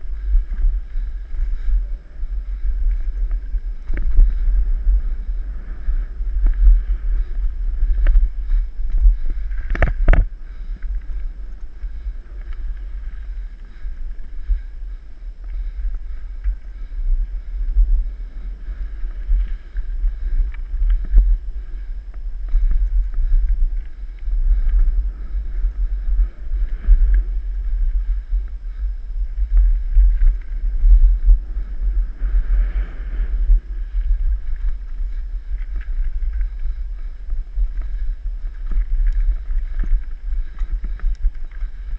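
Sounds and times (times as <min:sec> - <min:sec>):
bike clicks and rattles: 0:00.0 - 0:32.9, 0:33.5 - 0:41.9
wind buffeting microphone: 0:00.0 - 0:41.9.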